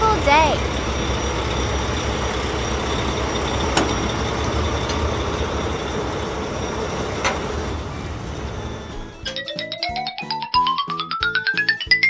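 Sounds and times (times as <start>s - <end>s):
truck engine rumbling: 0.0s - 10.2s.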